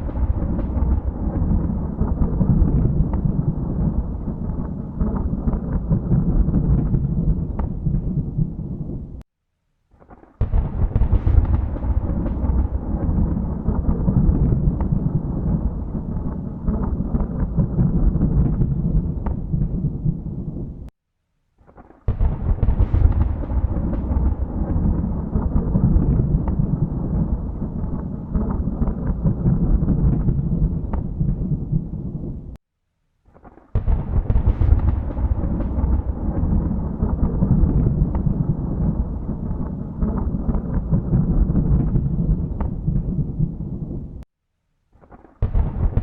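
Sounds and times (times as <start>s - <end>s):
rolling thunder: 0.0s - 9.2s, 10.4s - 20.9s, 22.1s - 32.6s, 33.8s - 44.2s, 45.4s - 46.0s
sharp thunder crack: 0.0s - 9.2s, 10.0s - 20.9s, 21.7s - 32.6s, 33.4s - 44.2s, 45.2s - 46.0s.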